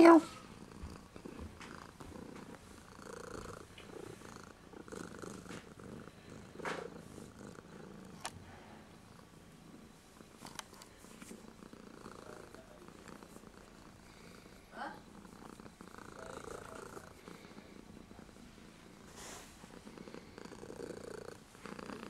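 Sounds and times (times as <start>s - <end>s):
kitten purring: 0.0s - 22.0s.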